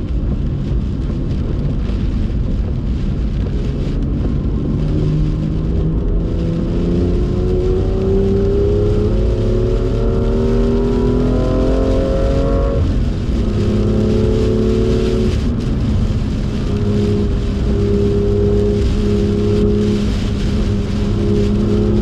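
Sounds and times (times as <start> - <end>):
car engine under full throttle: 0.0 - 22.0.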